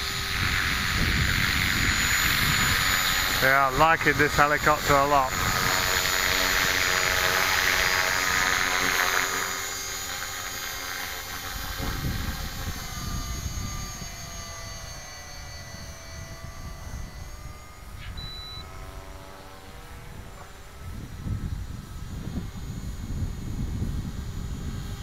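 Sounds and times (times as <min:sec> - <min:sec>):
rc helicopter rotor whine: 0:00.0 - 0:25.0
wind rumbling on microphone: 0:00.0 - 0:25.0.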